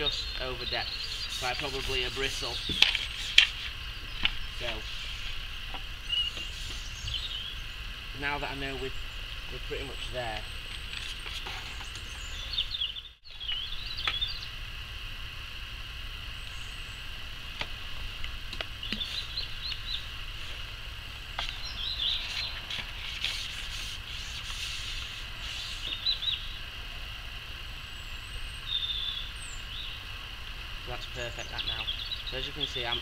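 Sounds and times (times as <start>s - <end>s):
small birds chirping: 0.0s - 14.7s, 16.2s - 33.0s
outdoor background hiss: 0.0s - 33.0s.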